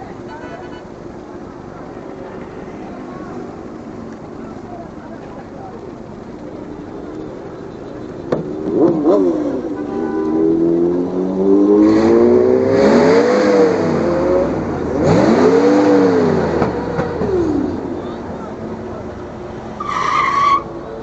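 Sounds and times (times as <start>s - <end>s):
car engine revving: 2.3s - 20.9s.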